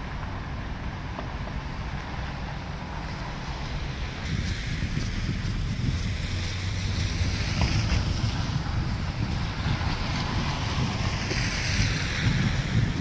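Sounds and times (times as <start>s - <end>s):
car tyres hissing on snowy road: 0.0s - 13.0s
wind buffeting microphone: 1.5s - 13.0s.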